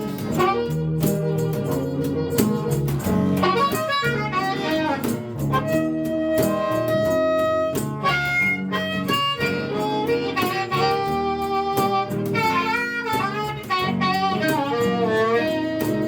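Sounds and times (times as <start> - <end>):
blues harmonica solo: 0.0 - 16.0
guitar accompaniment: 0.0 - 16.0.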